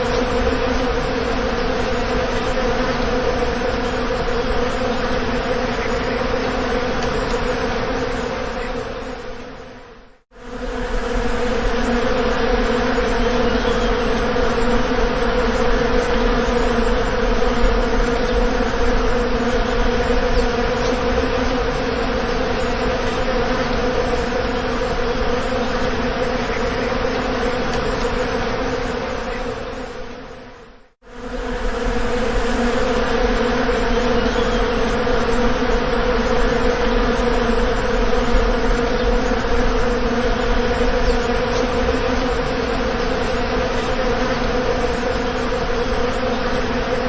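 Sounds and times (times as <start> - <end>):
bees buzzing: 0.0 - 30.5, 31.1 - 47.0.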